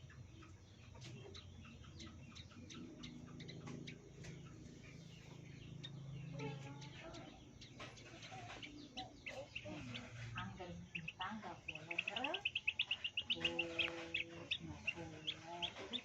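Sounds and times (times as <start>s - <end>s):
steady low hum: 0.0s - 16.0s
bird chirping rapid sharp notes: 1.7s - 16.0s.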